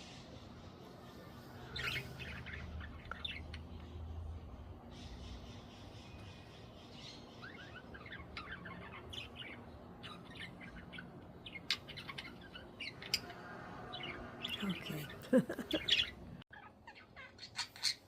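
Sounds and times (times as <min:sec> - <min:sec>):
budgies chirping: 0:00.0 - 0:18.0.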